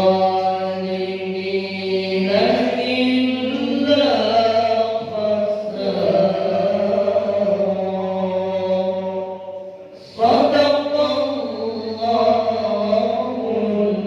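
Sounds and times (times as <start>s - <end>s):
man reciting in melodic chant: 0.0s - 14.0s.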